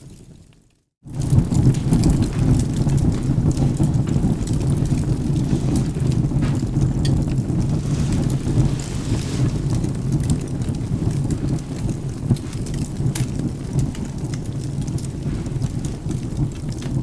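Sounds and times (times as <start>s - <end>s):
rain: 0.0s - 17.0s
burning wood crackling: 1.1s - 17.0s
low thunder rumble: 1.1s - 17.0s.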